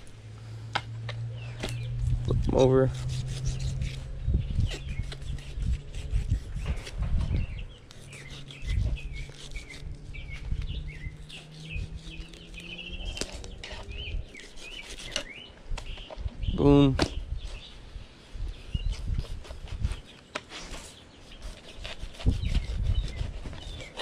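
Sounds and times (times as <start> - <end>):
steady low hum: 0.0 - 20.0
small birds chirping: 1.0 - 24.0.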